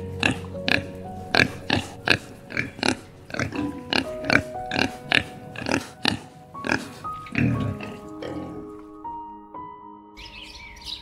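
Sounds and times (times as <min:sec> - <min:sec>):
wild boars grunting: 0:00.0 - 0:09.1
soft background music: 0:00.0 - 0:11.0.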